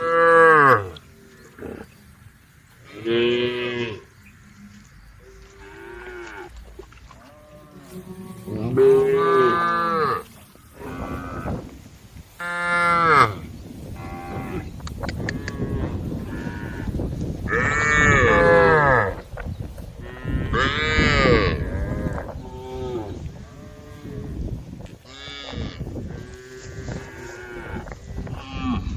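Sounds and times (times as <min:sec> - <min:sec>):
cows mooing: 0:00.0 - 0:02.0, 0:02.8 - 0:11.8, 0:14.0 - 0:19.2, 0:20.0 - 0:24.4, 0:25.0 - 0:28.9.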